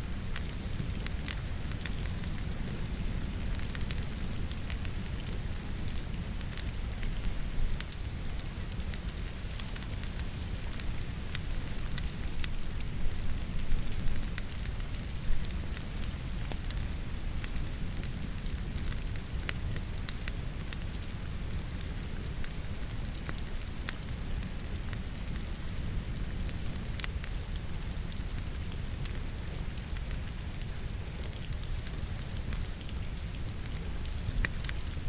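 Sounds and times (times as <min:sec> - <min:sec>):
logs crackling in a fireplace: 0:00.0 - 0:35.0.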